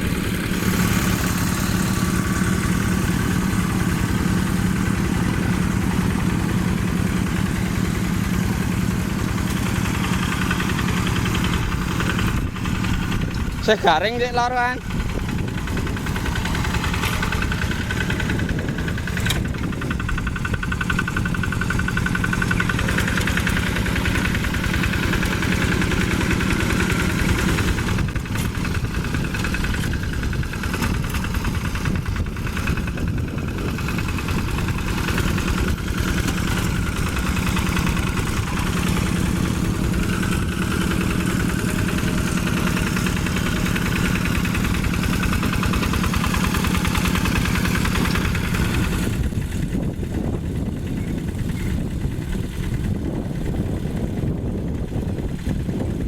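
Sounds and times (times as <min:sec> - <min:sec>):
diesel engine running steadily: 0:00.0 - 0:56.0.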